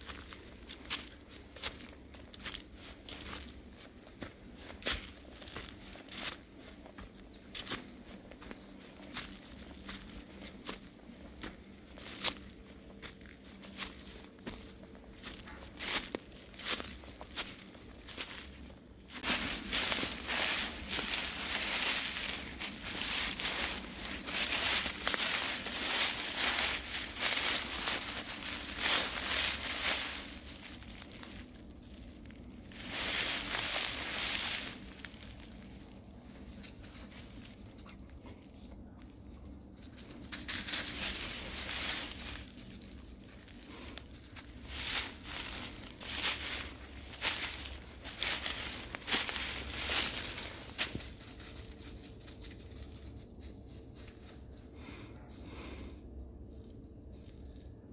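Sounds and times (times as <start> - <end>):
footsteps crunching dry leaves: 0.0 - 57.9.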